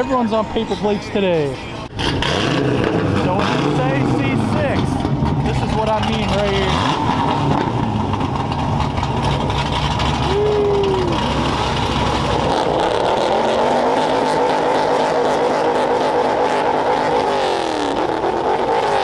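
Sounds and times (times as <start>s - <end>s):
loud car engine: 1.8s - 19.0s.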